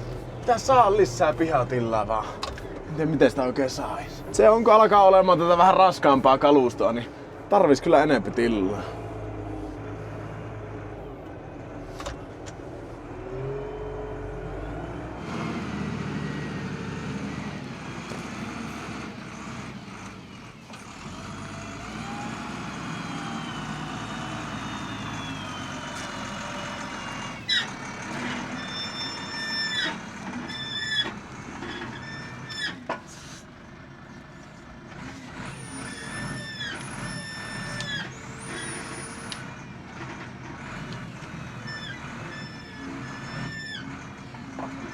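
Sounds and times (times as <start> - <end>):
brakes squealing: 0.0 - 44.9
heavy vehicle engine running: 0.0 - 44.9.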